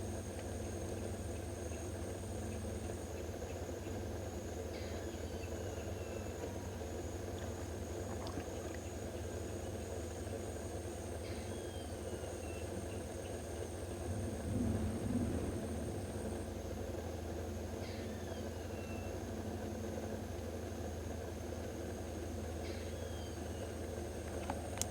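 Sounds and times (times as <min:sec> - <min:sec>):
crickets trilling: 0:00.0 - 0:24.9
steady low hum: 0:00.0 - 0:24.9.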